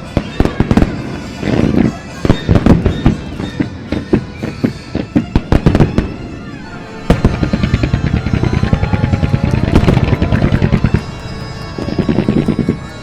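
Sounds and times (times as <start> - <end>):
fireworks bangs and crackle: 0.0 - 13.0.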